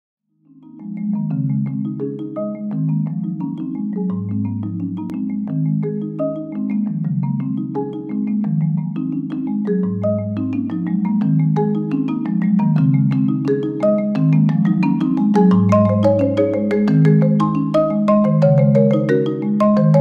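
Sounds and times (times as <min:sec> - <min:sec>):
marimbas playing repeating pattern: 0:00.5 - 0:20.0.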